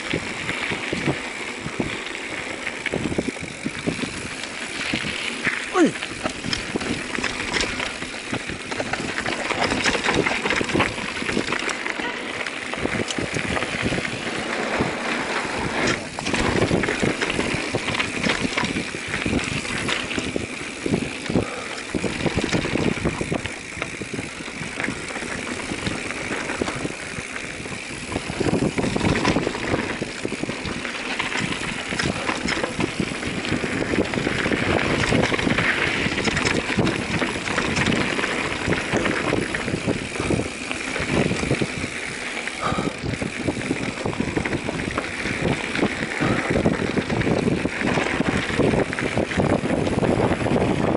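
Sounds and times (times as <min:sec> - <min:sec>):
bike rattling and clicking: 0:00.0 - 0:50.9
bike tyres rolling over soil: 0:00.0 - 0:50.9.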